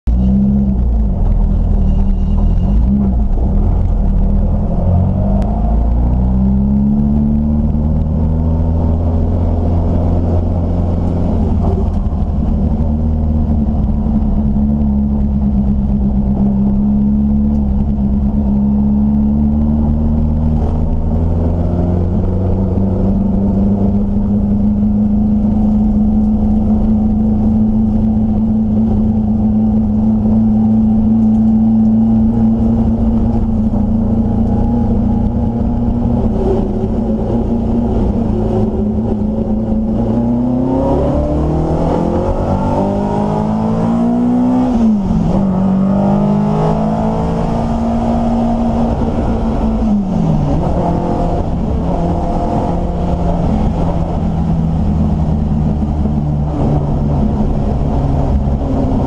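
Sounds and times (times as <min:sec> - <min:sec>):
race car engine running hard: 0:00.2 - 0:59.0.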